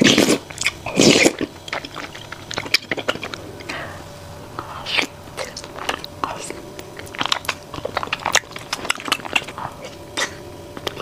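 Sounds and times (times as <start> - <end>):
chewing with wet mouth clicks: 0.0 - 3.8, 4.6 - 11.0.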